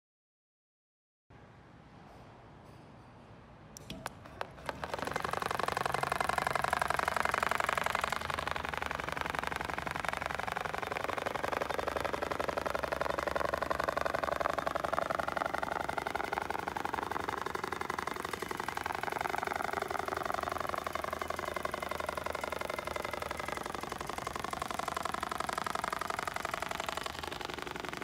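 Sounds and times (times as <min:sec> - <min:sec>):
industrial sewing machine stitching: 0:04.6 - 0:28.0.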